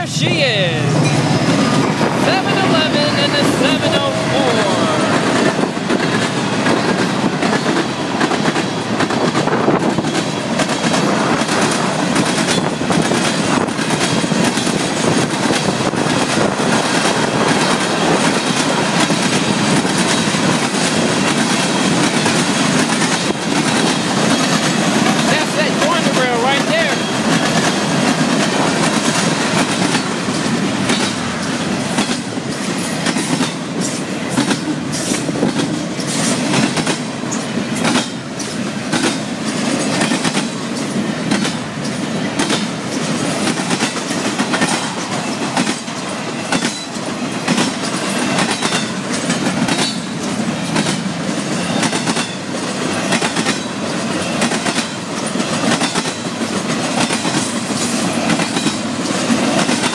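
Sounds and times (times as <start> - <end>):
freight train cars rumbling past: 0.0 - 59.9
wheels clicking over rail joints: 5.1 - 59.9.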